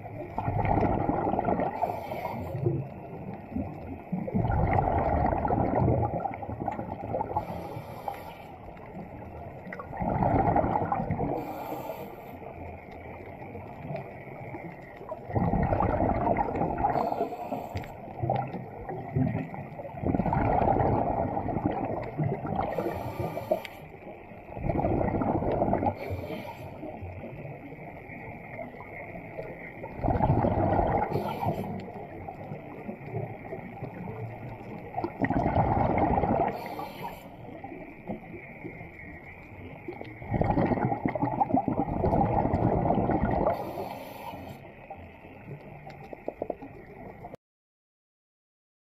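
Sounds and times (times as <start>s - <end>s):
exhaled air bubbling underwater: 0.0s - 47.4s
underwater hum: 0.0s - 47.4s.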